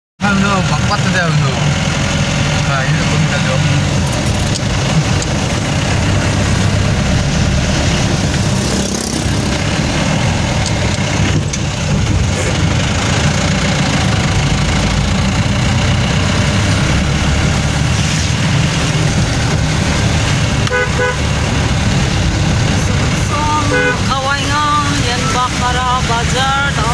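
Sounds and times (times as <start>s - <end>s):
tyre noise on wet road: 0.2s - 26.9s
vehicle engine rumble: 0.2s - 26.9s.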